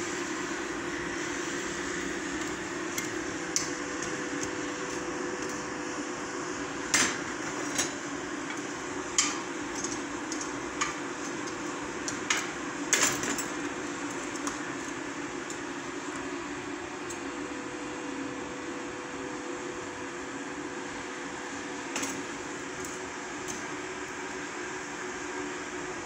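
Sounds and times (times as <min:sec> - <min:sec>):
forge air blower whirring: 0:00.0 - 0:26.0.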